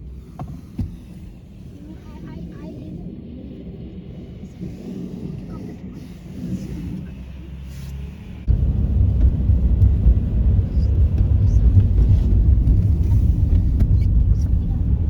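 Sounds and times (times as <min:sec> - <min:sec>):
car rumbling on the move: 0:00.0 - 0:15.0.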